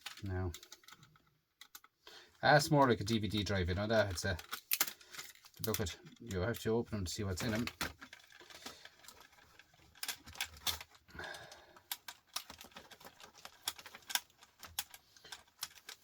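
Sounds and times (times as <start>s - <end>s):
plastic and metal parts clicking: 0.0s - 2.0s, 2.7s - 16.0s.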